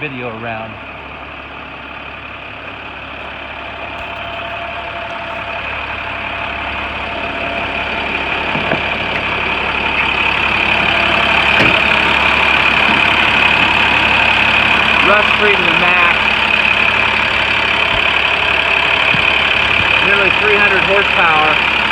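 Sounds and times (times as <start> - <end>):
diesel truck engine idling: 0.0 - 21.9.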